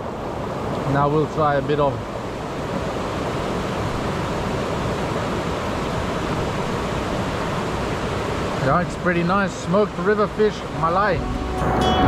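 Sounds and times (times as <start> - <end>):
river flowing over rocks: 0.0 - 12.0.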